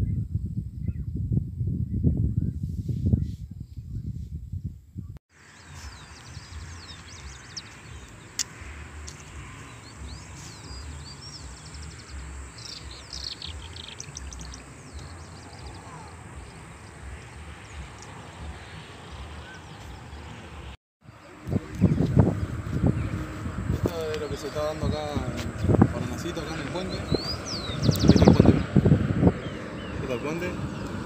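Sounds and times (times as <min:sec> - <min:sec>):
wind rumble on microphone: 0:00.0 - 0:31.0
small birds chirping: 0:05.3 - 0:31.0.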